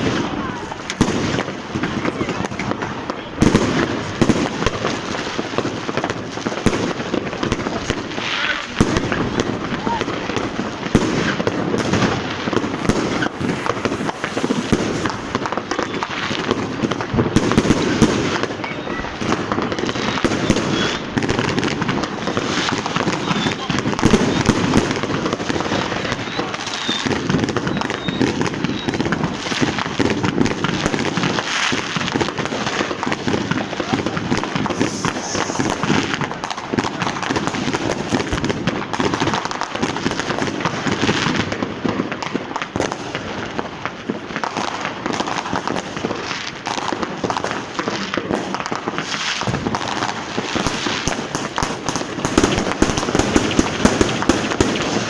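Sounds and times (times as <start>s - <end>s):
fireworks and firecrackers: 0.0s - 55.0s.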